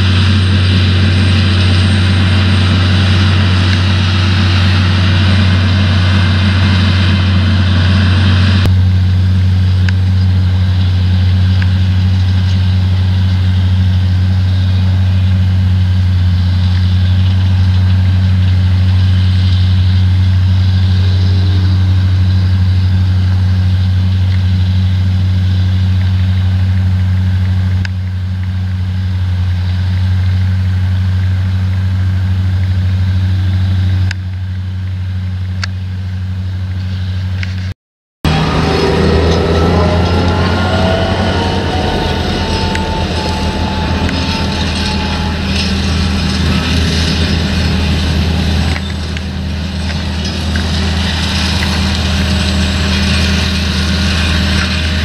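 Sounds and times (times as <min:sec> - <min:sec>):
bright machine noise: 0:00.0 - 0:27.9, 0:38.3 - 0:55.0
harvester engine drone: 0:00.0 - 0:55.0.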